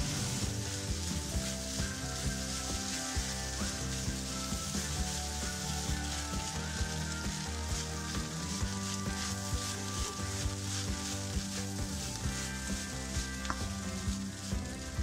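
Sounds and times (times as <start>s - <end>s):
background music: 0.0s - 15.0s
rice sizzling in a wok: 0.0s - 15.0s
spatula scraping a pan: 0.0s - 15.0s.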